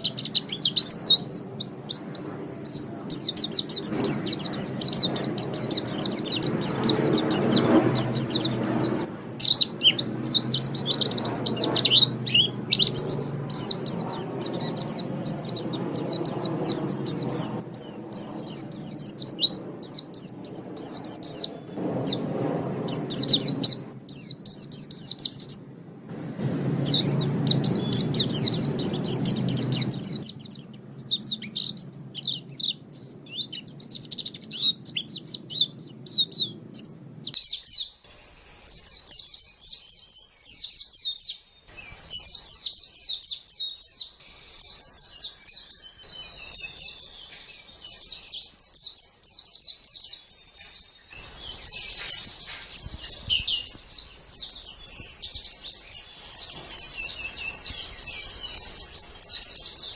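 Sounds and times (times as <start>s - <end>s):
bird twittering chatter: 0.0s - 59.9s.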